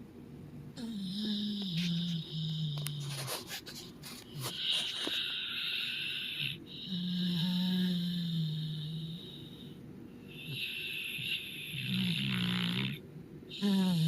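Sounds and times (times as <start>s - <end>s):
dog snoring: 0.8s - 3.3s, 4.4s - 9.7s, 10.3s - 14.0s.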